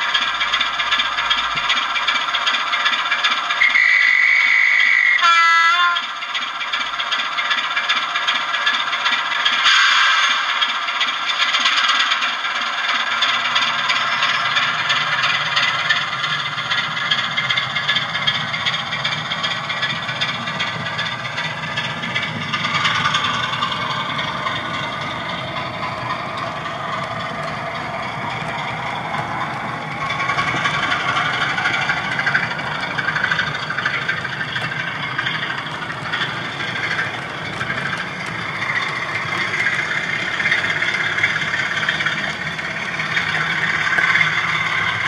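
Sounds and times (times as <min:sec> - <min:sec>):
model diesel engine sound: 0:00.0 - 0:45.0
model wheels rattling over track: 0:00.0 - 0:45.0.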